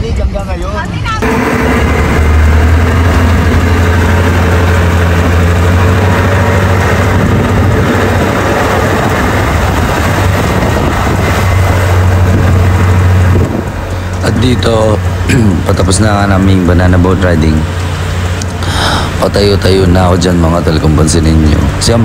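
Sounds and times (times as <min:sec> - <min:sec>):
outboard motor running: 0:01.2 - 0:22.0.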